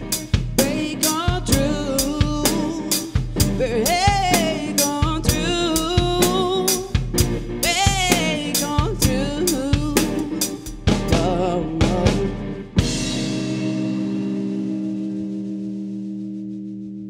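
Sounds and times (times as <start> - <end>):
drum kit beat: 0.0 - 15.1.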